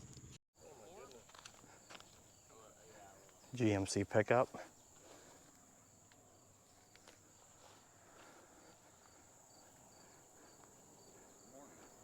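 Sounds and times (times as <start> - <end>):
insects droning: 0.0 - 12.0
soft insect chirp: 0.0 - 12.0.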